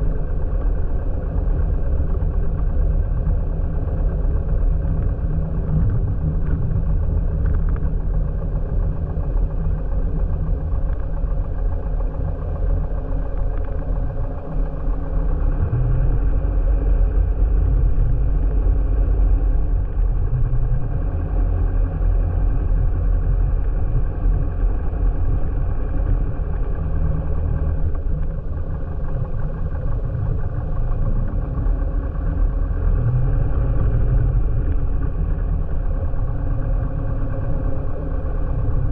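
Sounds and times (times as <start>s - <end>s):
aircraft piston engine droning: 0.0s - 38.9s.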